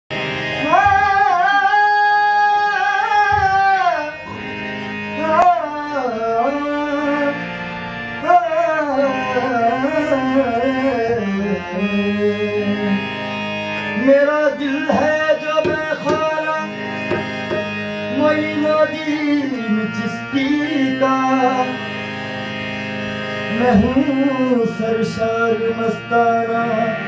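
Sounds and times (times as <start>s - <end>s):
tabla: 0.1s - 7.4s, 8.2s - 13.1s, 13.8s - 22.2s, 23.3s - 27.0s
accompanying drone: 0.1s - 27.0s.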